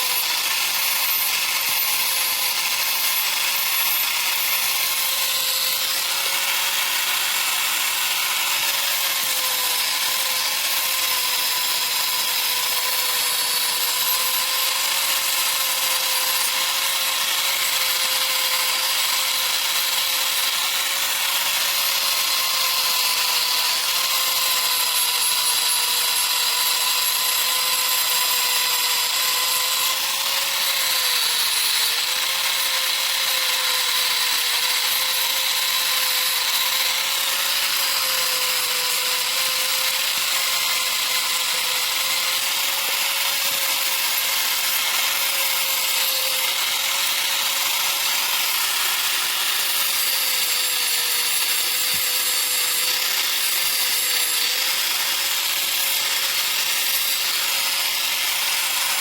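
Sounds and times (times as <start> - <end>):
electric grinder on steel: 0.0 - 59.0.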